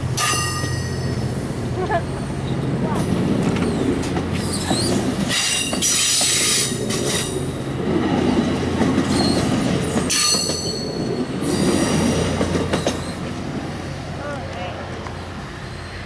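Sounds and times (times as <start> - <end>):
train rumbling: 0.0 - 16.0
wheels squealing on rails: 0.2 - 7.6, 8.2 - 13.4, 15.1 - 16.0.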